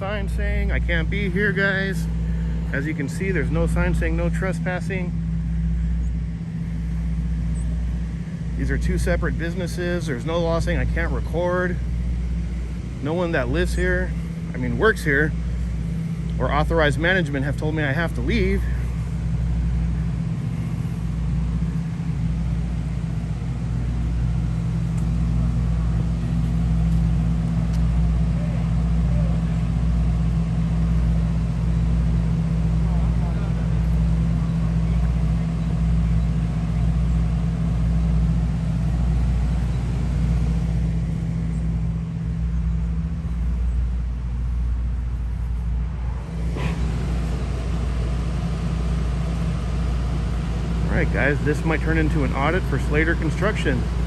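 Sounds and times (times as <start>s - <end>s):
motor humming: 0.0s - 54.0s.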